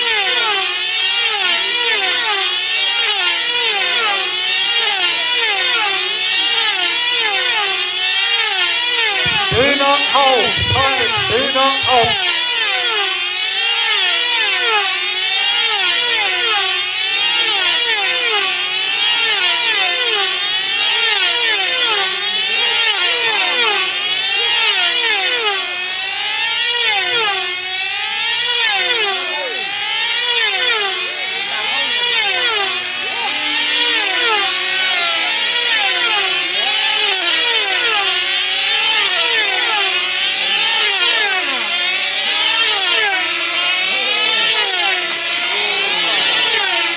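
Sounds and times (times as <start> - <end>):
model aircraft engines whining: 0.0 - 46.9.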